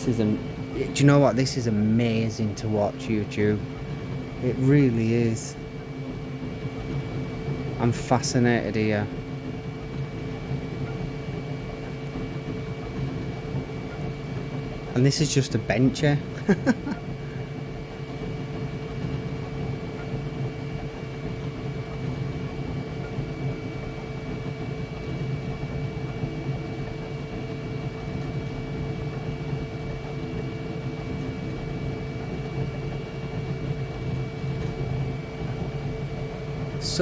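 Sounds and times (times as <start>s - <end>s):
printer fans and motors humming: 0.0s - 37.0s.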